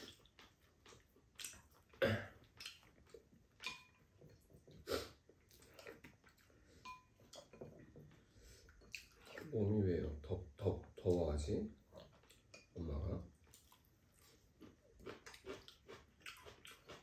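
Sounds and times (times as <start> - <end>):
chewing and slurping: 0.0 - 9.6, 11.8 - 17.0.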